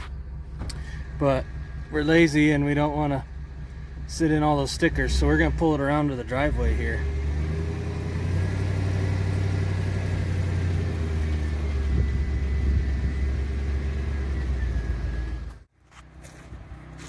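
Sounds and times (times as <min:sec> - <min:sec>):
vehicle engine running at low revs: 0:00.0 - 0:17.0.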